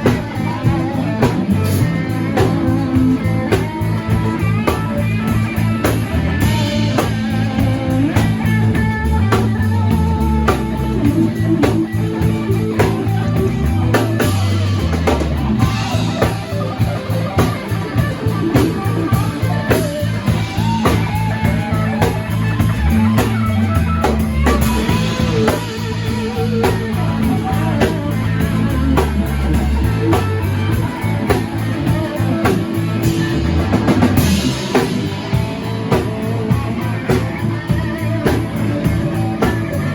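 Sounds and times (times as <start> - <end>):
bass guitar: 0.0 - 39.9
drum kit hits: 0.0 - 39.9
electric guitar lines: 0.0 - 39.9.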